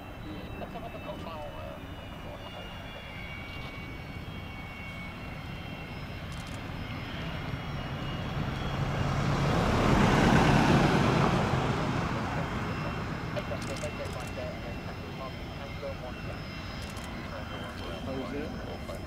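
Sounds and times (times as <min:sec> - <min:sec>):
jet engines on runway: 0:00.0 - 0:19.0.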